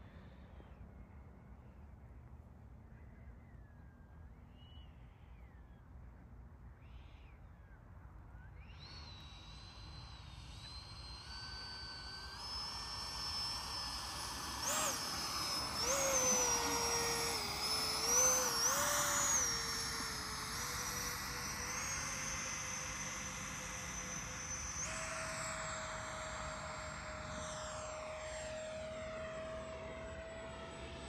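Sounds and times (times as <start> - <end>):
model jet fan whine: 0.0 - 31.0.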